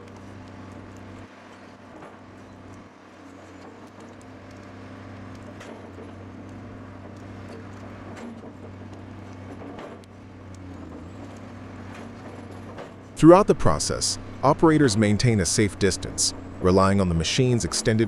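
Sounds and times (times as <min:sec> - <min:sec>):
machine engine running: 0:00.0 - 0:18.0.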